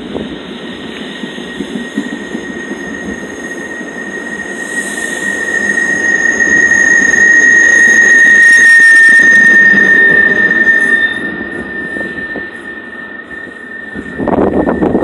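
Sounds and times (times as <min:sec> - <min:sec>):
train coaches rolling past: 0:00.0 - 0:15.0
high-pitched wheel squeal: 0:01.2 - 0:15.0.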